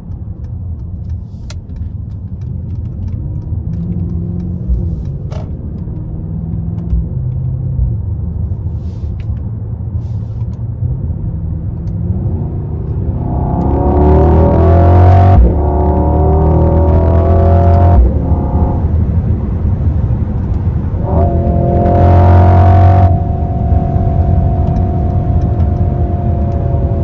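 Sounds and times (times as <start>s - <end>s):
road noise: 0.0s - 27.0s
low engine drone: 2.5s - 27.0s.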